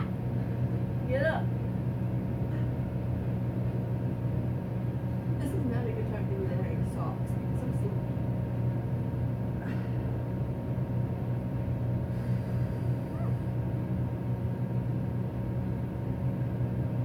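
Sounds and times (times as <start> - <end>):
furnace blower humming: 0.0 - 17.0.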